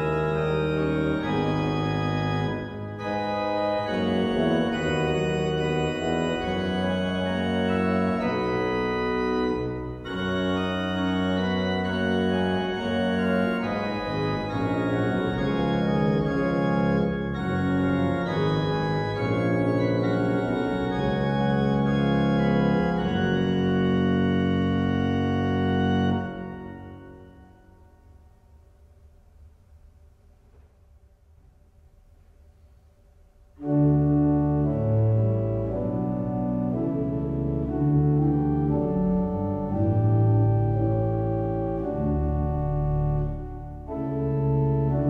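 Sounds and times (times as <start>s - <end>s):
church pipe organ chords: 0.0s - 29.1s, 33.5s - 45.0s.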